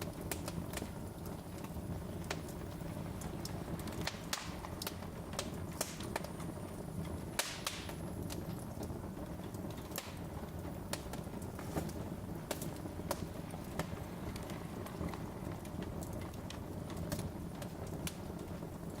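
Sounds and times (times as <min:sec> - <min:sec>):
low rumble of burning: 0:00.0 - 0:19.0
wood fire crackling: 0:00.0 - 0:19.0.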